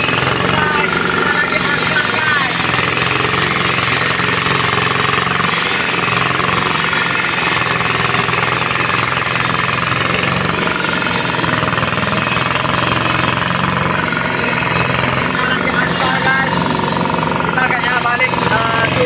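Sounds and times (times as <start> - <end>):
engine humming: 0.0 - 19.0
jackhammer hammering rapidly: 0.0 - 19.0.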